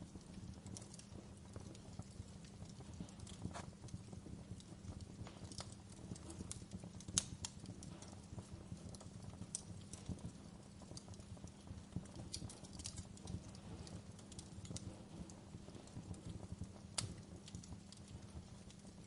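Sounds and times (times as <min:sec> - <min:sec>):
wood fire crackling in fireplace: 0:00.0 - 0:19.0.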